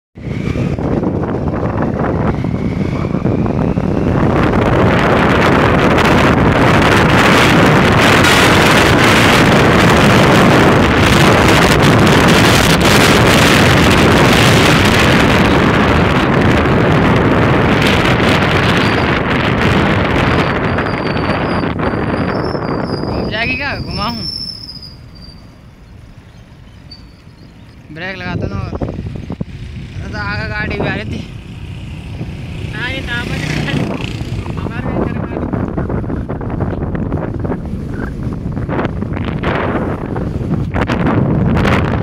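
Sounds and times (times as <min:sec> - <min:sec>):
road noise: 0:00.2 - 0:42.0
wind rushing over microphone: 0:00.2 - 0:42.0.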